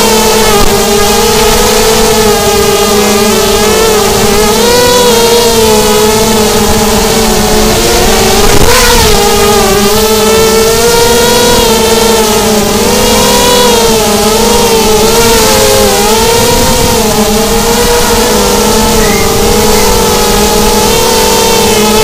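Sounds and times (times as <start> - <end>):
drone motors buzzing: 0.0 - 22.0.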